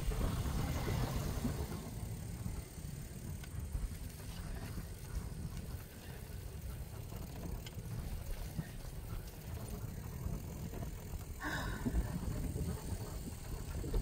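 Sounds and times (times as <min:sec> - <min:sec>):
wind rumble on microphone: 0:00.0 - 0:14.0
faint clicks: 0:00.2 - 0:14.0.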